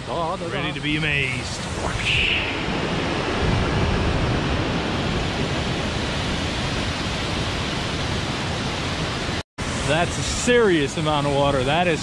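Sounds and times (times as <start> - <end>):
waterfall rushing: 0.4 - 11.9.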